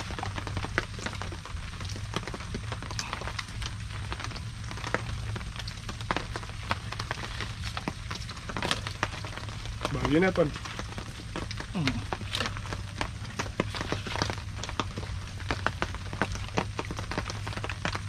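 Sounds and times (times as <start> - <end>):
pump engine humming: 0.0 - 18.0.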